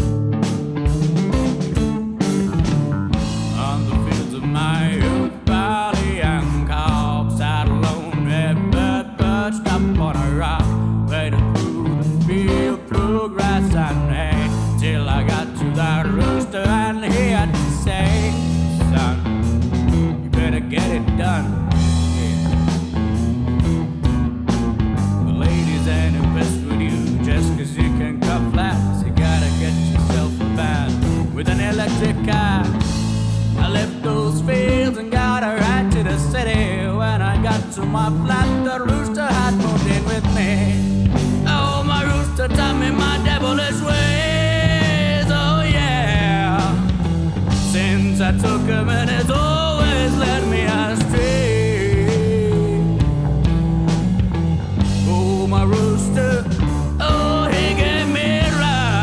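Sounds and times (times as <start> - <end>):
electric guitar: 0.0 - 59.0
rock band playing: 0.0 - 59.0.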